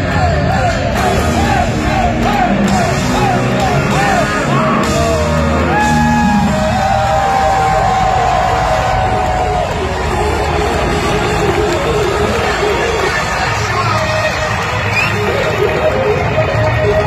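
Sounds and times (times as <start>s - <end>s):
crowd yelling: 0.0s - 17.0s
live rock band: 0.0s - 17.0s.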